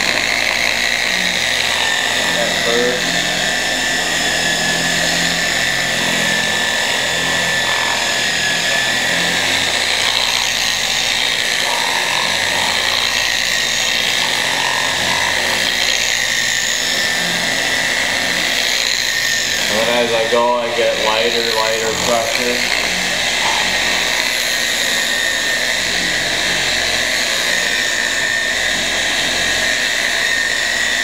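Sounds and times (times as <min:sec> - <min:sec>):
electric car polisher whining: 0:00.0 - 0:31.0.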